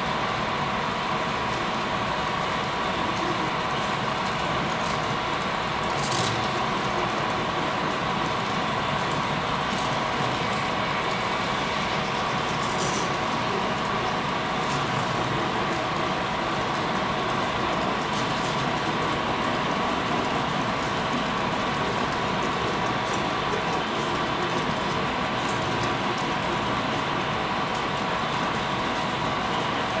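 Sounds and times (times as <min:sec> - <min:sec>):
model train running whir: 0:00.0 - 0:30.0.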